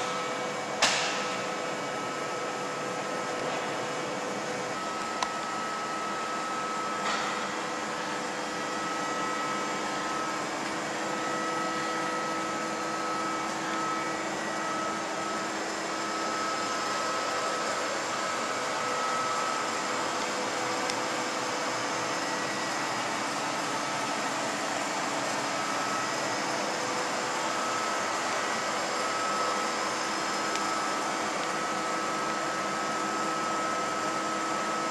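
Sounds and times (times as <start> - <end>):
machinery whirring: 0.0 - 34.9.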